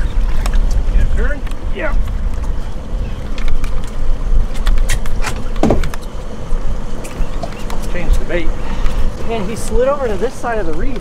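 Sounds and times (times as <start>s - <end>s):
wind and boat rumble: 0.0s - 11.0s.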